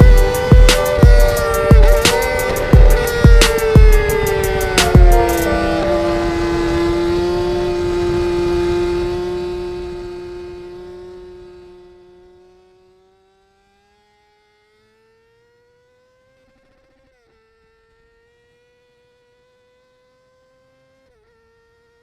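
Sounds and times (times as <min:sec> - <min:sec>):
faint motorcycle engine whine: 0:00.0 - 0:22.0.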